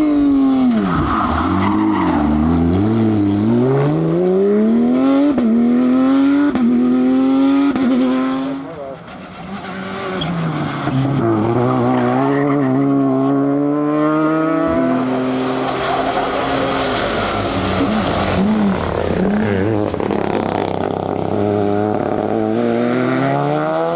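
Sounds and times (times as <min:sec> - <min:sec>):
car engine accelerating hard: 0:01.9 - 0:23.9.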